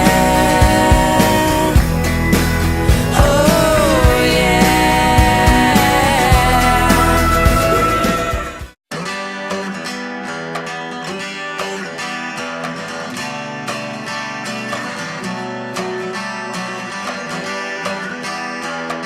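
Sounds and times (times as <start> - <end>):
strummed acoustic guitar music: 0.0 - 19.0.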